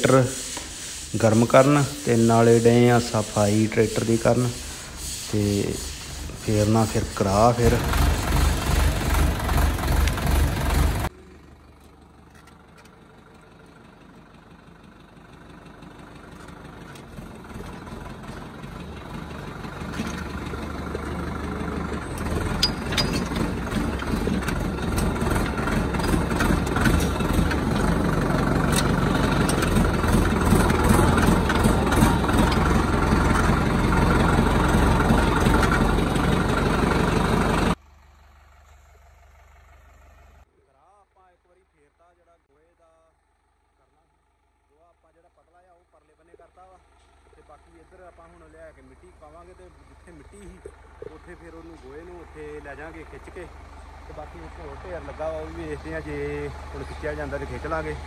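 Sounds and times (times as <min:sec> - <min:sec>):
tractor diesel engine running: 0:00.0 - 0:40.5, 0:42.6 - 0:58.0.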